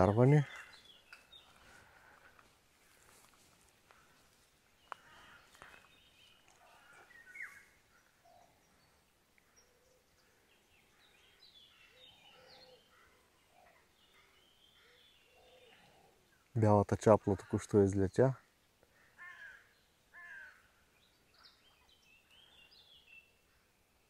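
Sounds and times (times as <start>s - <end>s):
faint bird calls: 0.0s - 17.7s, 18.8s - 23.8s.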